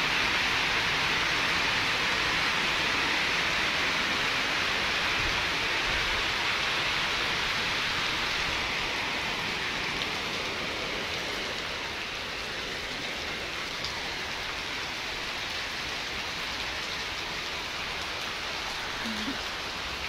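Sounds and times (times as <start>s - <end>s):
heavy rain on water and paving: 0.0s - 20.0s.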